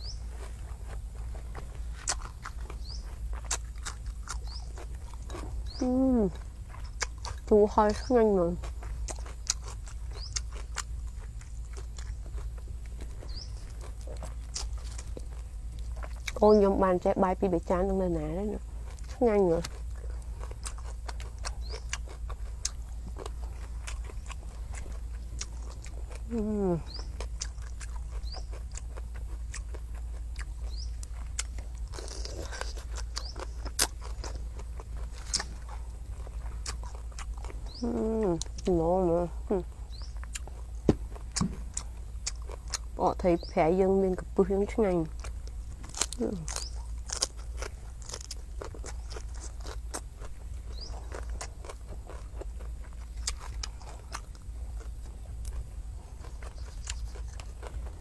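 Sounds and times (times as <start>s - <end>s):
low steady rumble: 0.0s - 58.0s
person chewing and crunching: 0.0s - 58.0s.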